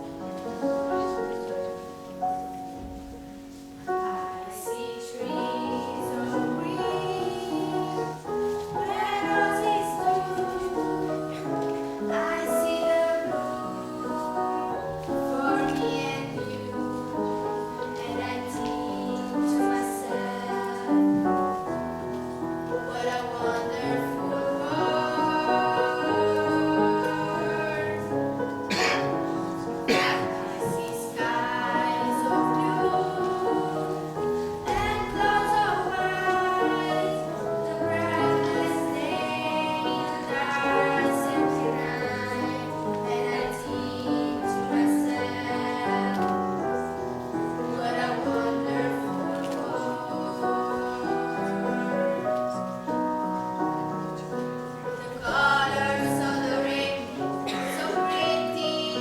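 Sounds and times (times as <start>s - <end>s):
choir singing: 2.6s - 59.0s.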